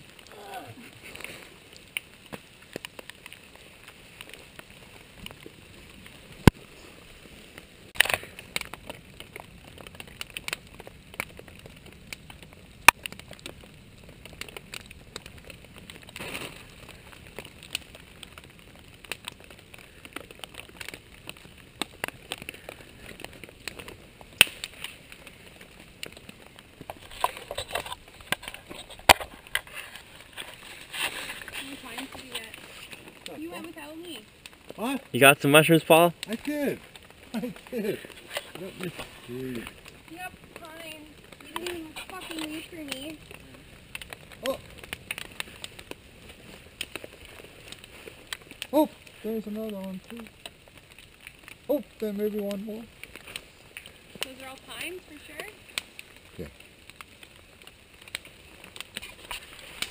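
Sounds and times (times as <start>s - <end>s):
campfire crackling and popping: 0.0s - 59.9s
low hiss of fire: 0.0s - 59.9s.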